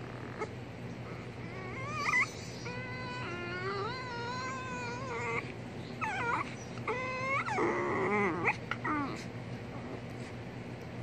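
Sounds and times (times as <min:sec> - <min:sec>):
puppy whining yowls: 0:00.0 - 0:09.3.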